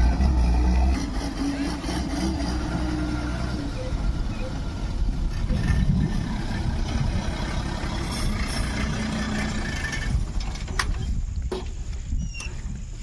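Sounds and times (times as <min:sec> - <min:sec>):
bus diesel engine running: 0:00.0 - 0:11.4.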